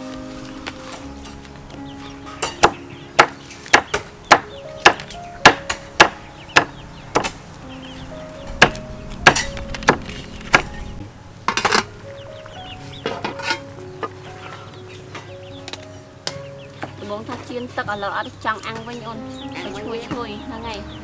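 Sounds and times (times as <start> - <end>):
background music with held notes: 0.0 - 21.0.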